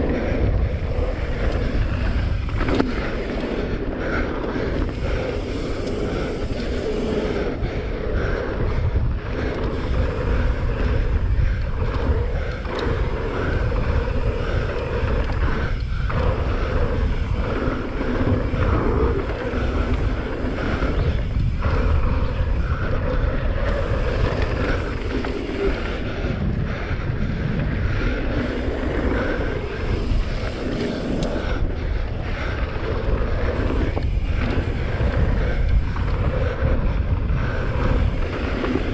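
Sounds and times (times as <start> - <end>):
bike rumbling and rattling on dirt: 0.0 - 38.9
wind buffeting microphone: 0.0 - 38.9.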